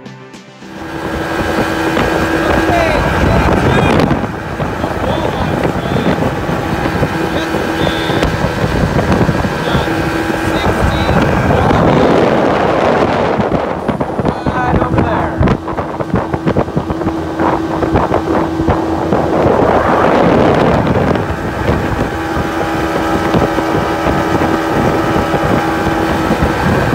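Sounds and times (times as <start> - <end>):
outboard motor running: 0.6 - 26.9
wind buffeting microphone: 0.7 - 26.9.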